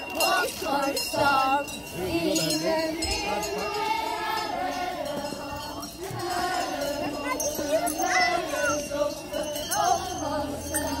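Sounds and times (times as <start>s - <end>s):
children and adults singing: 0.0s - 11.0s.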